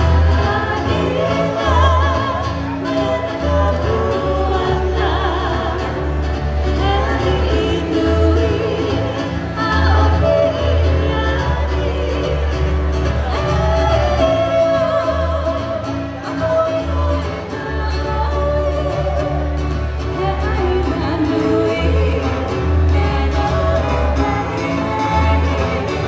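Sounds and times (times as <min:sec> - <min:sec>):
person singing with vibrato: 0:00.0 - 0:26.0
strummed acoustic strings: 0:00.0 - 0:26.0.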